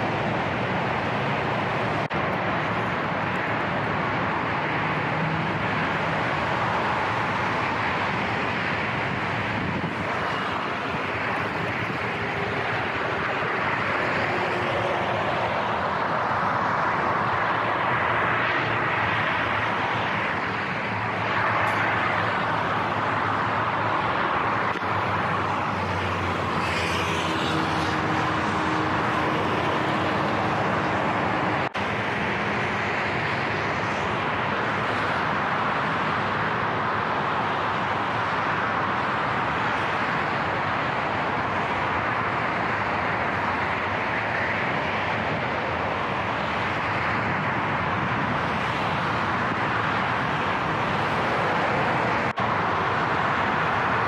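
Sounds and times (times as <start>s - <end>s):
motorway traffic rush: 0.0s - 54.0s
passing vehicle engine hum: 0.0s - 54.0s.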